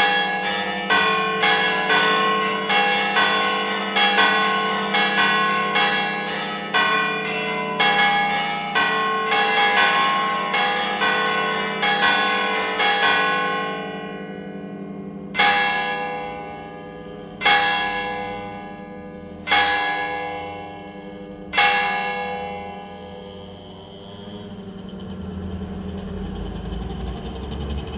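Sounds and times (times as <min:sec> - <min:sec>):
church bells ringing: 0:00.0 - 0:25.4.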